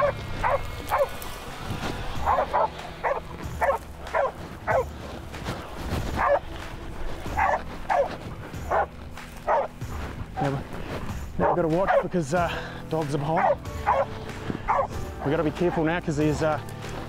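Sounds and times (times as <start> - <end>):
dogs barking: 0.0 - 1.5, 2.1 - 16.4.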